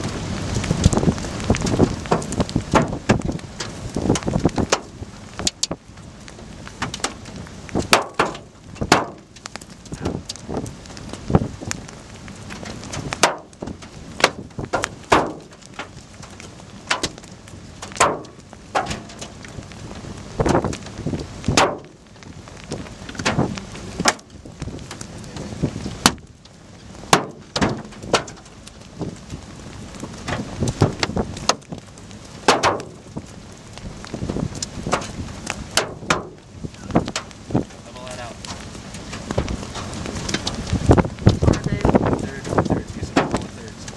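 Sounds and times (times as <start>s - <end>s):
hailstones striking: 0.0s - 43.9s.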